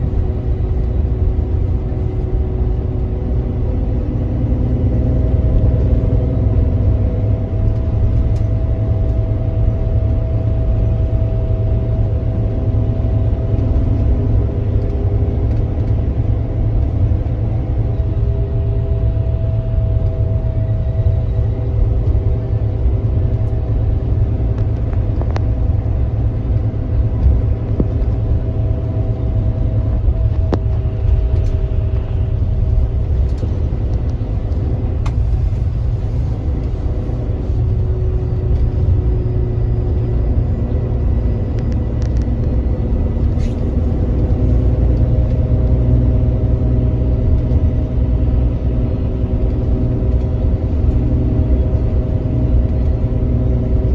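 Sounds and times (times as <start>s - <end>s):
bus engine and road rumble: 0.0s - 53.9s
drivetrain whining: 0.0s - 53.9s.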